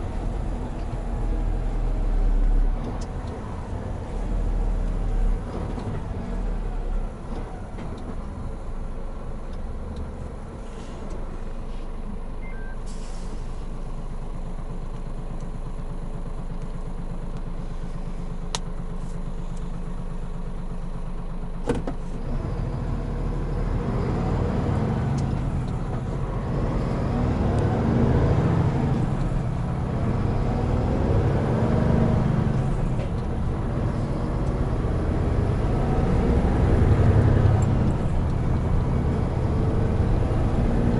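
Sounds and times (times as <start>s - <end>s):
truck diesel engine accelerating: 0.0s - 40.9s.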